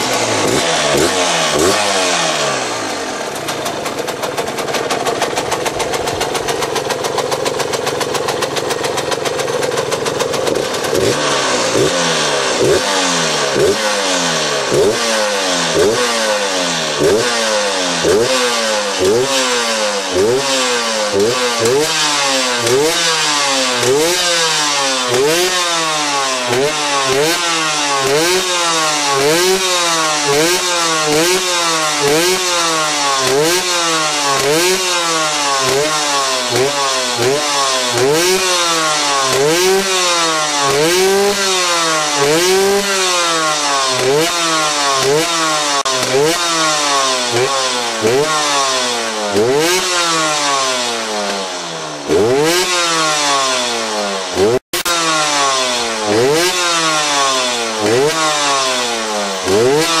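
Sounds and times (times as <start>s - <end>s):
two-stroke engine revving: 0.0s - 60.0s.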